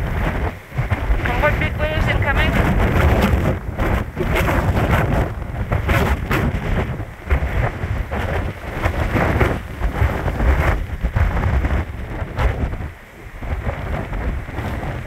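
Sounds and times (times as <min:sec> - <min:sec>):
heavy low rumble: 0:00.0 - 0:15.0
sea waves crashing: 0:00.0 - 0:15.0
strong wind buffeting microphone: 0:00.0 - 0:15.0.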